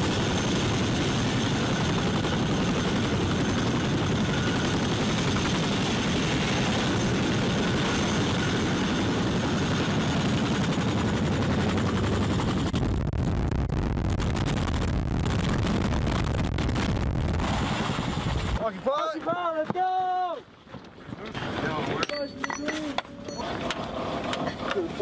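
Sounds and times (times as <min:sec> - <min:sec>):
helicopter hovering overhead: 0:00.0 - 0:18.9, 0:21.3 - 0:25.0.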